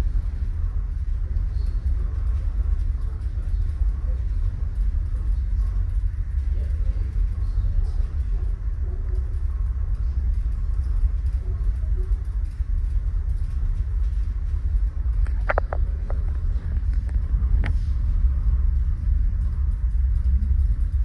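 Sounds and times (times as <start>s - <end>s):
ferry low rumble: 0.0s - 21.0s.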